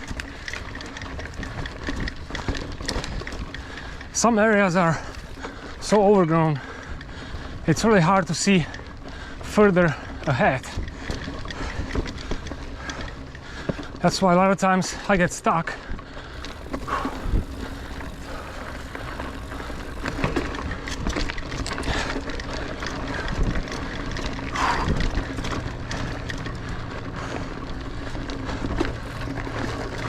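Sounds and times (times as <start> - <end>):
bike rattling over bumps: 0.0 - 30.0
bike tyres rolling on dirt: 0.0 - 30.0.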